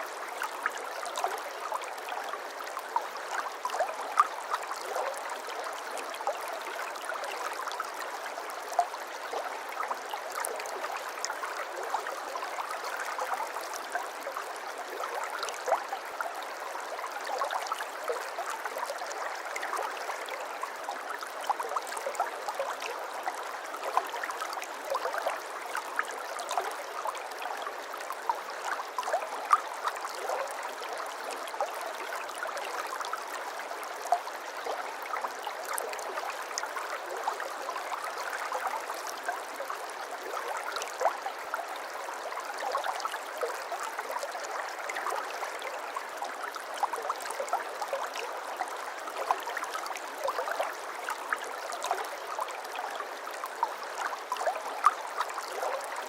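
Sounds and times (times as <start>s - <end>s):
stream gurgling over stones: 0.0s - 56.0s.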